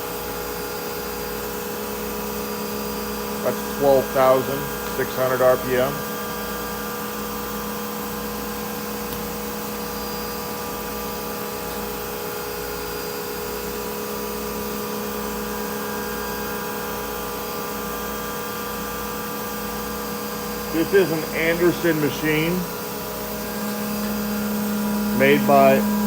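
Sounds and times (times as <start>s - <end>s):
cnc router spindle whine: 0.0s - 26.0s.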